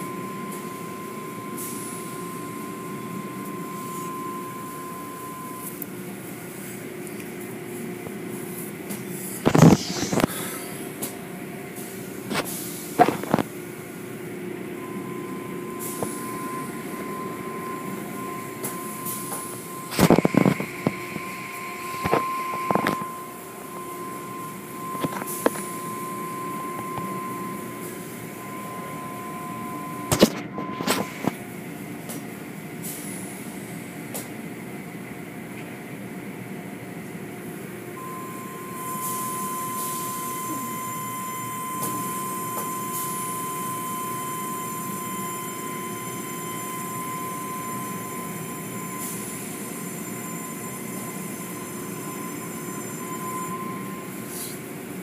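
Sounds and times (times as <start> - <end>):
constant whine: 0.0 - 32.5, 37.9 - 55.0
car wash machinery drone: 0.0 - 55.0.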